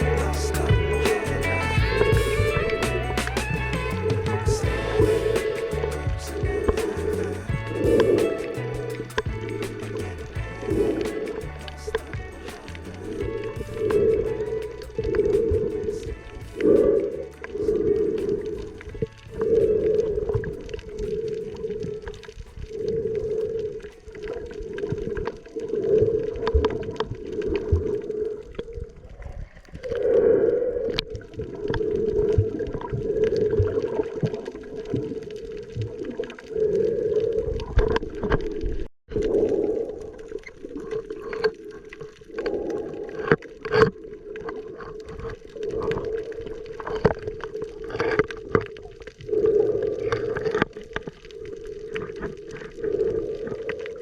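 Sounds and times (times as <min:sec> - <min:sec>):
underwater low hum: 0:00.0 - 0:54.0
crackling clicks: 0:05.2 - 0:54.0.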